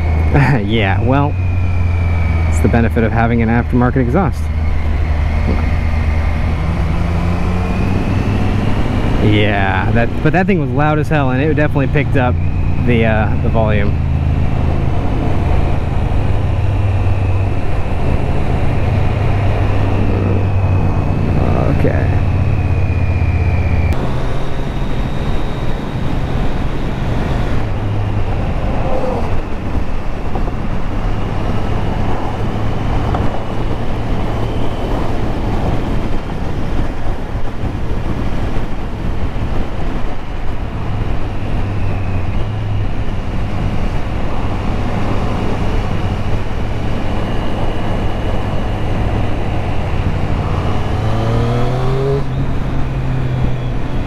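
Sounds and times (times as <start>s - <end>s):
wind rush: 0.0s - 54.0s.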